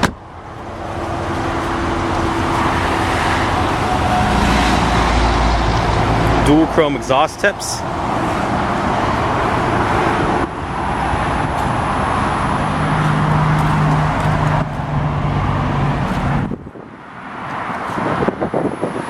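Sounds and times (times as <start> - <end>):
motor vehicle low hum: 0.0 - 18.7.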